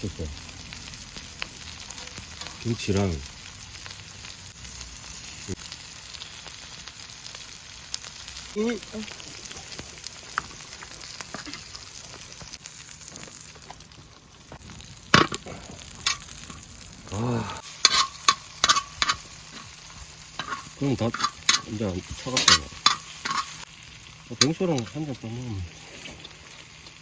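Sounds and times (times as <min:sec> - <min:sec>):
meat sizzling on a griddle: 0:00.0 - 0:27.0.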